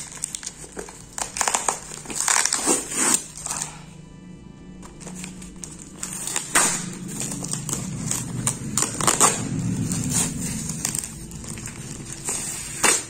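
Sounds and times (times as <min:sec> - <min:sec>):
packing tape and cardboard tearing: 0:00.0 - 0:03.9, 0:04.8 - 0:13.0.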